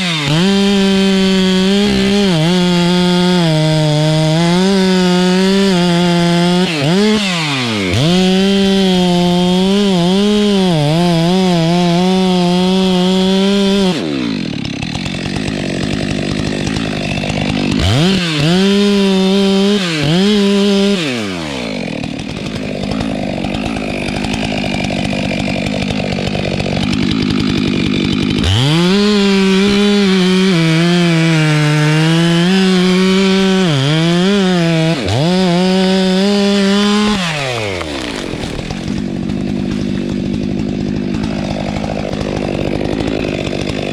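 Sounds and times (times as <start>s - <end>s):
chainsaw running at high revs: 0.0s - 43.9s.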